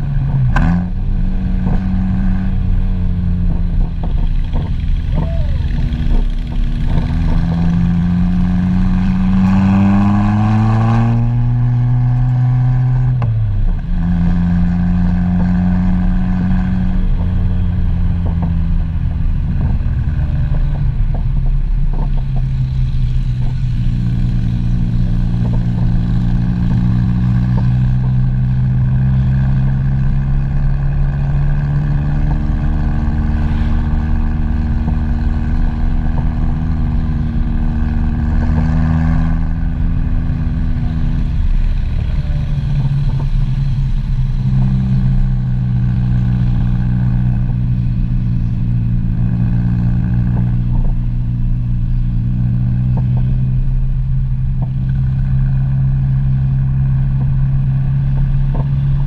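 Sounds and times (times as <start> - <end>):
vehicle engine running under load: 0.0 - 59.0.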